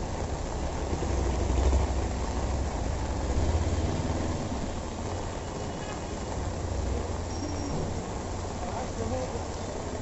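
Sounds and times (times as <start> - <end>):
motor traffic rumble: 0.0 - 10.0
rain hissing on wet street: 0.0 - 10.0.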